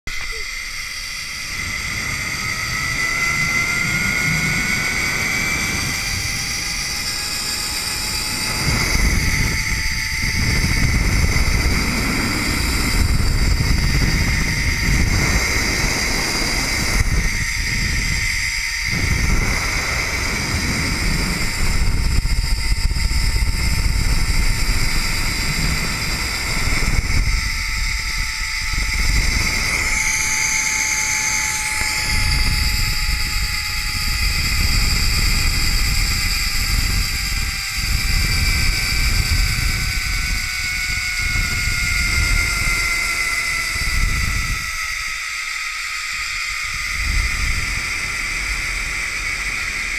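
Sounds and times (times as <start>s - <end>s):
wind rush on microphone: 0.1s - 49.9s
zipline pulley whine on cable: 0.1s - 49.9s.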